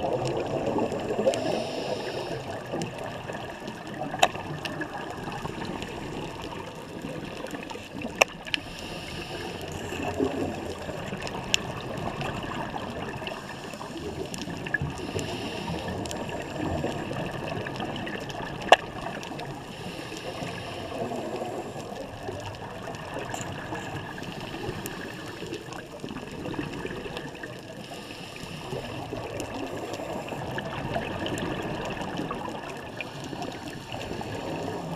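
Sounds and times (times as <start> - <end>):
underwater bubbles gurgling: 0.0 - 34.9.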